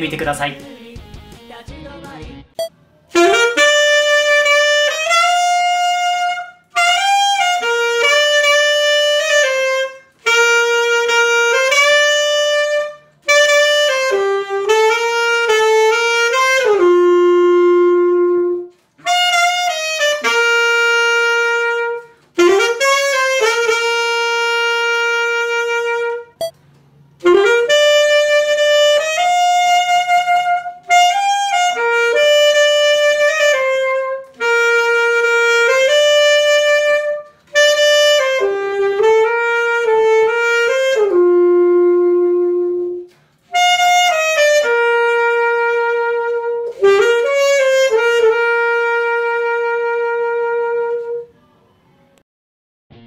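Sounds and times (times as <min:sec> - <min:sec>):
saxophone playing slow melody: 0:03.1 - 0:51.8.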